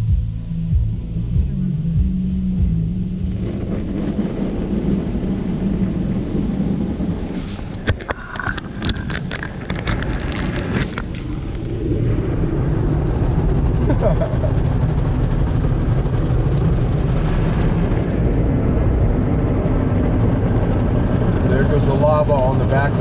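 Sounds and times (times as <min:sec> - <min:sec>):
car wash water rushing: 0:02.3 - 0:23.0.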